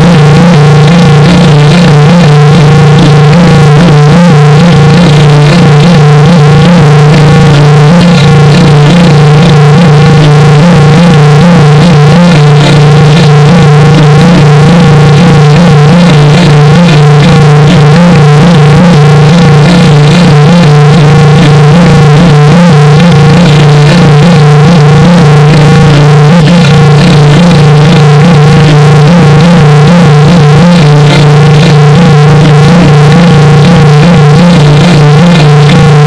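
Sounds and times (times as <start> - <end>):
distorted low buzzing drone: 0.0 - 36.0
warbling electronic tones: 0.0 - 36.0.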